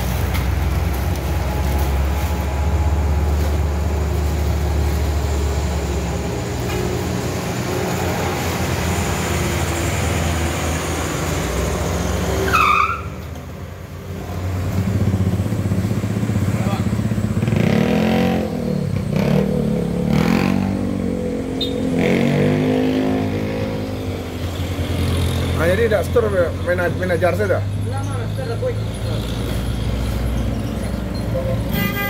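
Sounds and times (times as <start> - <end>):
trucks engines under load: 0.0 - 32.0.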